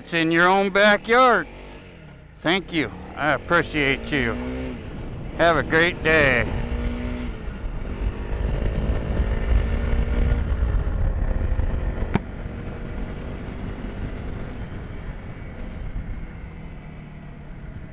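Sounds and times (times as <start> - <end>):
motorcycle engine running: 1.3 - 17.9.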